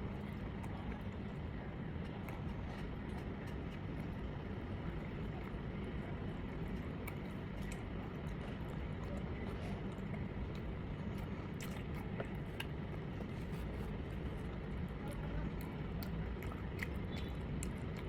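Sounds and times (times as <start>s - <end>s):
low background rumble: 0.0s - 18.0s
person chewing: 2.0s - 18.0s.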